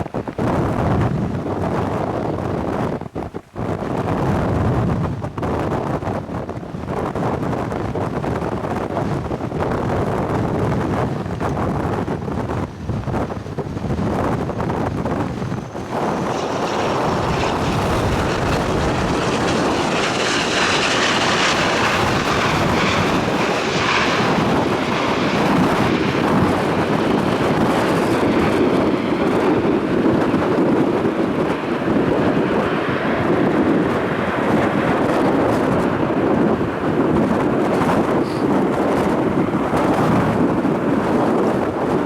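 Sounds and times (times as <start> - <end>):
airliner engines roaring: 0.0 - 42.0
wind buffeting microphone: 0.0 - 42.0.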